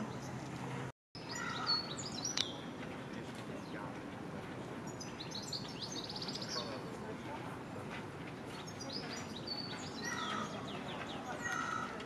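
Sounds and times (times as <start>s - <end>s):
birds chirping: 0.0s - 4.0s, 4.6s - 6.9s, 8.5s - 12.0s
outdoor background hiss: 0.0s - 12.0s.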